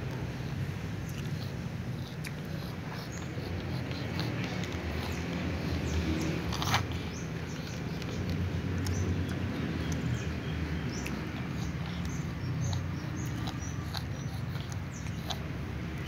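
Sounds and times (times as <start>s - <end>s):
cat chewing crunchy food: 0.1s - 16.0s.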